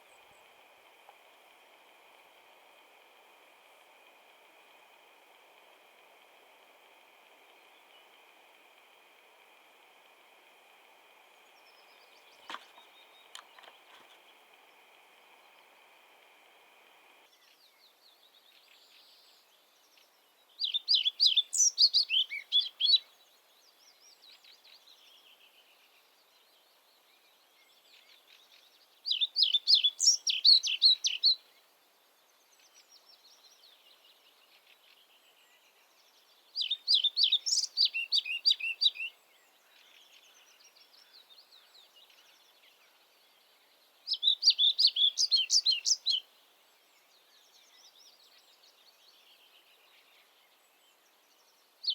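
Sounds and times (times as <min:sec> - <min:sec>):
faint songs of other birds: 0:00.0 - 0:51.9
songbird singing rapid phrase: 0:01.8 - 0:16.2, 0:20.4 - 0:31.7, 0:32.3 - 0:51.9.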